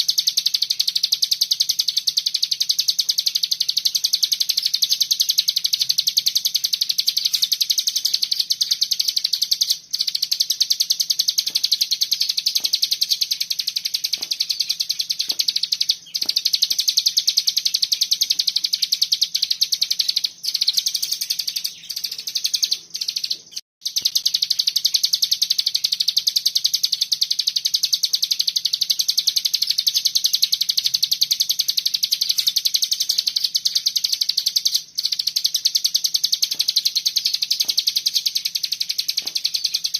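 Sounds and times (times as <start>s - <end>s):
songbird rapid trill: 0.0s - 39.9s.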